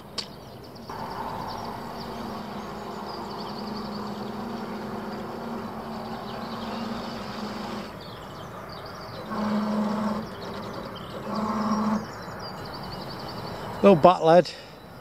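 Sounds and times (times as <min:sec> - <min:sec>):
bait boat electric motors: 0:00.9 - 0:13.9.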